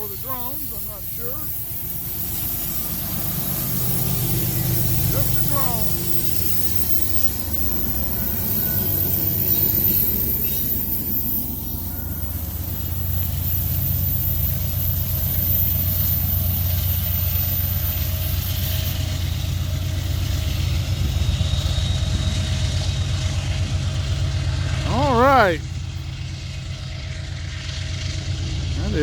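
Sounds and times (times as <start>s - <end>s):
locomotive engine rumble: 0.0s - 29.0s.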